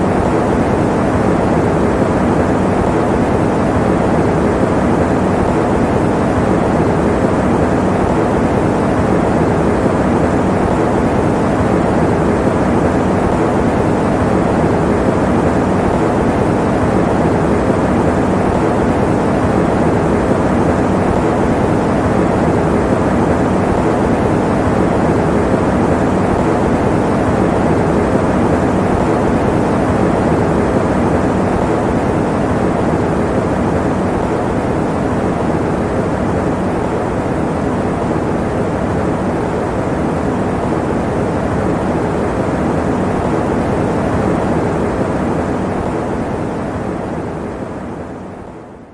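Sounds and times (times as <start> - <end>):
electric fan running: 0.0 - 48.9.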